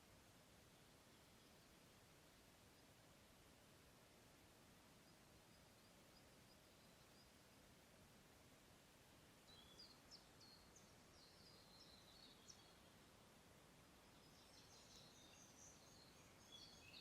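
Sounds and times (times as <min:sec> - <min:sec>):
songbirds chirping: 0:00.0 - 0:17.0
steady background hiss: 0:00.0 - 0:17.0.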